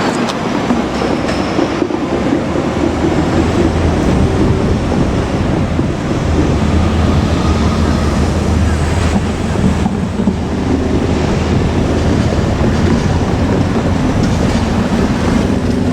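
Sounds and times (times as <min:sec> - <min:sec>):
broad rushing noise: 0:00.0 - 0:15.9
diesel railcar engine drone: 0:00.0 - 0:15.9.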